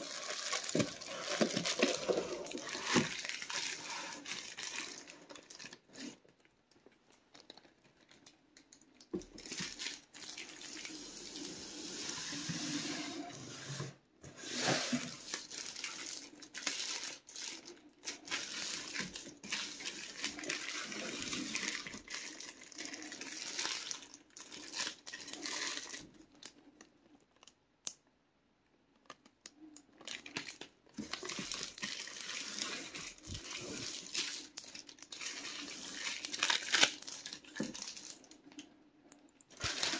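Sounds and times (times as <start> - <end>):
plastic shrink wrap crinkling: 0.0 - 11.5, 14.4 - 27.6, 29.0 - 38.6, 39.5 - 39.9.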